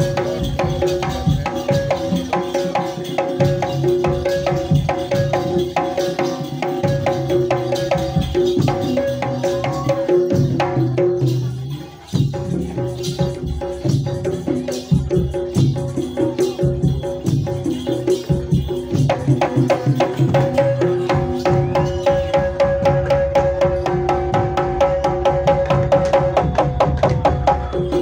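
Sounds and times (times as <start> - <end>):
drums: 0.0 - 28.0.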